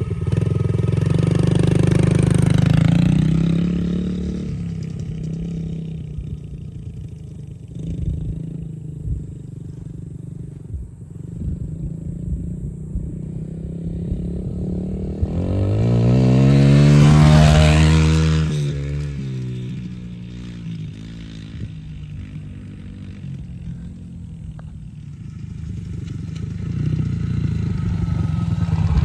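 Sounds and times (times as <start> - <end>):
dirt bike engine passing: 0.0 - 29.0.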